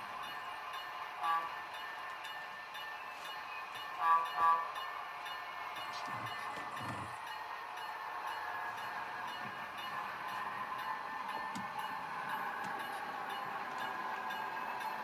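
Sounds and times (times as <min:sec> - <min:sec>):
model locomotive running sound: 0:00.0 - 0:15.0.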